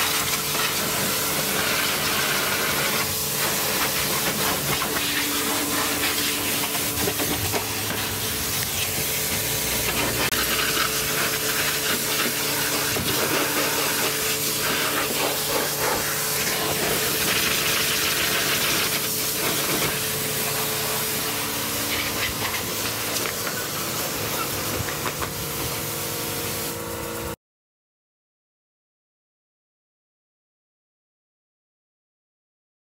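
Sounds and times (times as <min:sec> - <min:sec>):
pressure washer jet hissing: 0:00.0 - 0:27.4
steady machine hum: 0:00.4 - 0:27.4.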